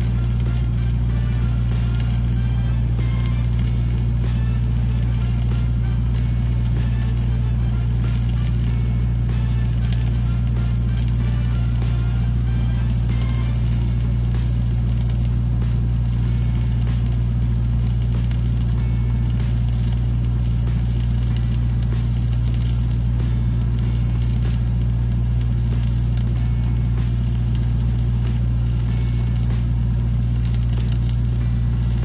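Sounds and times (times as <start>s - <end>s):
welding arc crackle: 0.0s - 32.0s
welding machine engine running: 0.0s - 32.0s.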